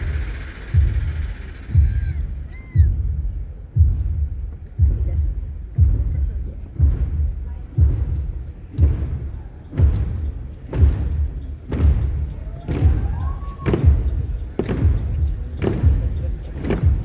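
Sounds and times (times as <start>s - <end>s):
heavy bass drum beat: 0.0s - 17.0s.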